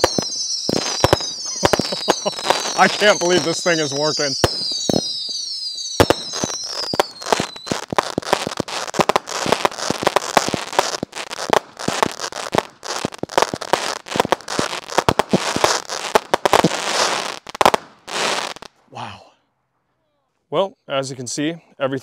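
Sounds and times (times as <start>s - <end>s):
firework whistles falling in pitch: 0.0s - 18.7s
firework pops and crackles: 0.0s - 18.8s.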